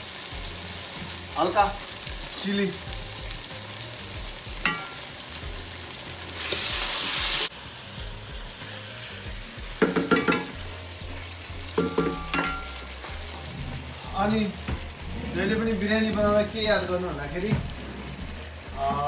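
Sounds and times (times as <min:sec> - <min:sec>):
food sizzling in a pan: 0:00.0 - 0:19.0
loud hiss flaring: 0:00.0 - 0:19.0.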